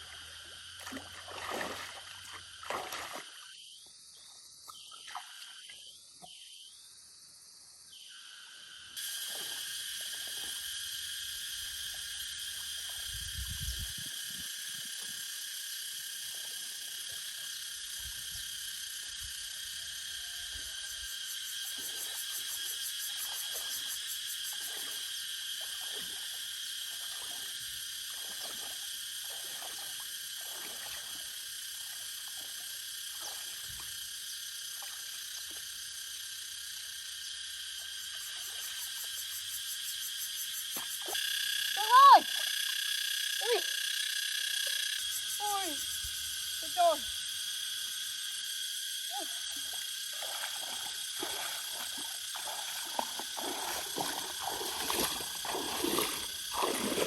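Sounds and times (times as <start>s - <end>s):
shrill insect chorus: 0.0s - 57.0s.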